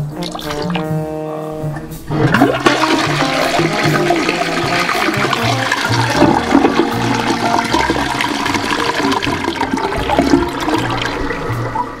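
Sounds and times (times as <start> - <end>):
water rushing in toilet bowl: 0.0 - 12.0.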